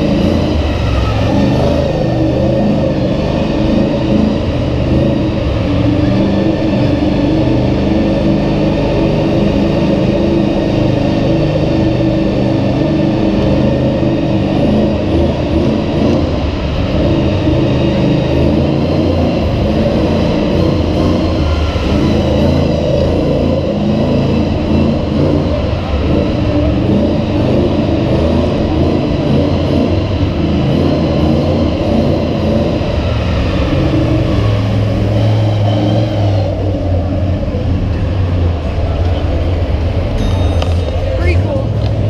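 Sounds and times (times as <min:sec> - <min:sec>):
truck engine running loud: 0:00.0 - 0:42.0.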